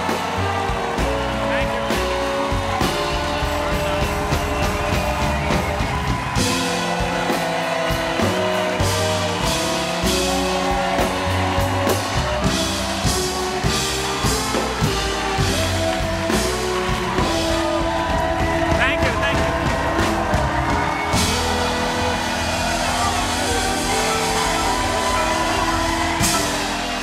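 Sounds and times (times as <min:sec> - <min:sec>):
audience applauding and cheering: 0:00.0 - 0:27.0
band music with steady beat: 0:00.0 - 0:27.0.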